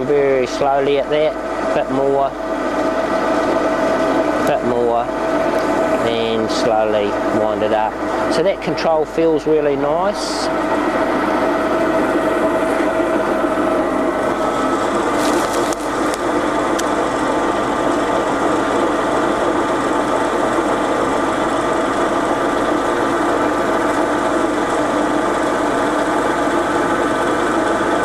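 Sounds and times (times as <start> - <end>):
bandsaw humming: 0.0 - 28.0.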